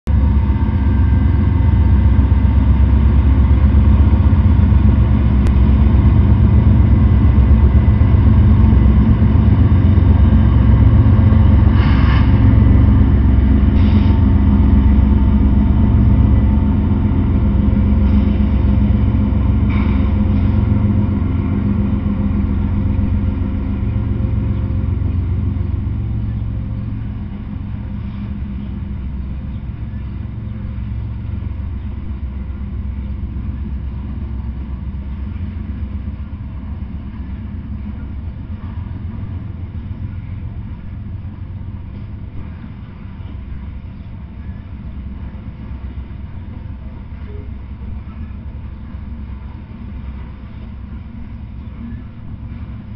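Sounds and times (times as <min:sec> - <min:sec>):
diesel locomotive rumbling: 0:00.0 - 0:52.9
train cars rolling on rails: 0:00.1 - 0:52.9.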